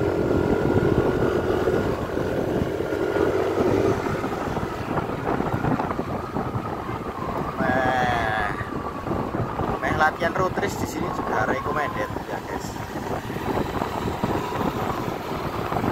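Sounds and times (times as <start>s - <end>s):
road noise: 0.0s - 15.9s
vehicle engine: 0.0s - 15.9s
wind on microphone: 0.0s - 15.9s.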